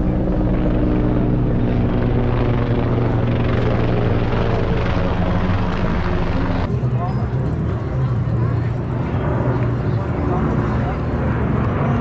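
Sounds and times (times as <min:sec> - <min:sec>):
helicopters flying overhead: 0:00.0 - 0:12.0.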